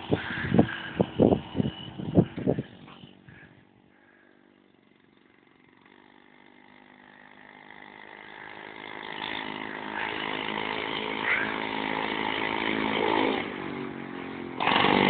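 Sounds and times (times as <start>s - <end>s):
small engine minibike approaching: 0.0s - 15.0s.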